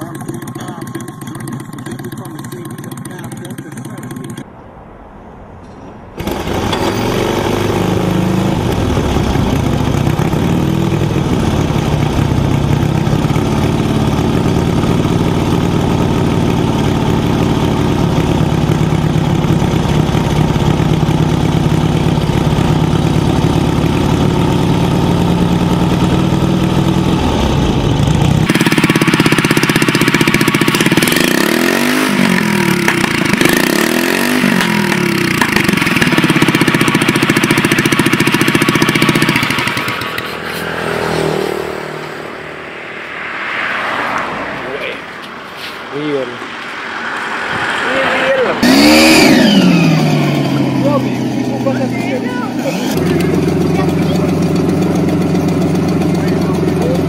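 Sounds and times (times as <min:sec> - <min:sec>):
motorcycle engine revving: 0:00.0 - 0:04.5, 0:06.2 - 0:57.0
motorcycle engine running: 0:00.0 - 0:04.5, 0:06.2 - 0:42.8, 0:46.5 - 0:57.0.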